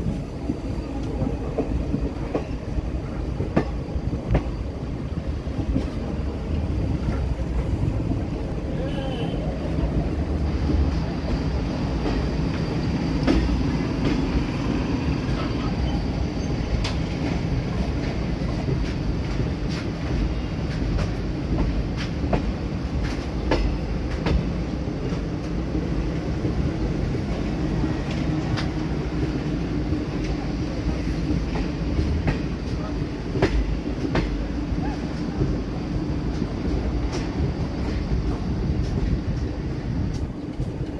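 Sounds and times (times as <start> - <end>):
rail joint clacks: 0.0 - 40.9
train wheels rumbling on rails: 0.0 - 40.9.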